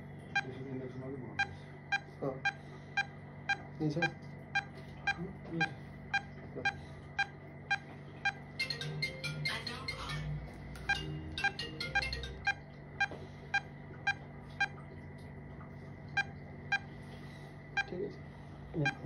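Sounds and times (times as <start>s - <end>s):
patient monitor beeping: 0.0s - 14.8s, 16.0s - 19.0s
electrical hum: 0.0s - 19.0s.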